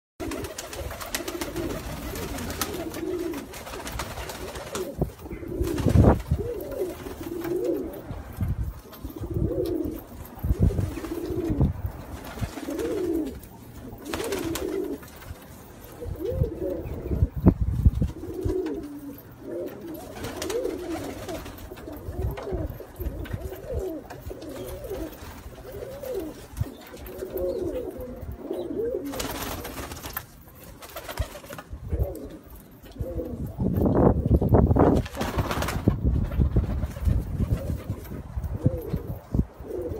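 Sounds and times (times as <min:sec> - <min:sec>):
pigeons cooing: 0:00.2 - 0:30.1, 0:31.0 - 0:34.9, 0:37.4 - 0:39.9.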